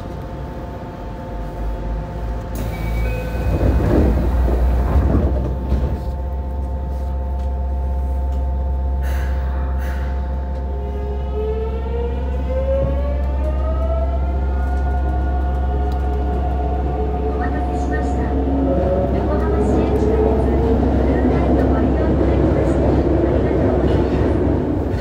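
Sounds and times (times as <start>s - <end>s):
train electrical hum: 0.0s - 25.0s.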